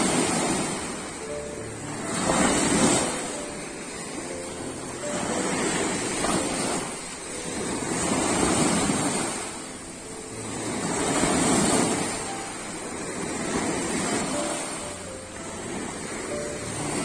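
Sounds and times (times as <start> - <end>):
small waves breaking on beach: 0.0 - 17.0.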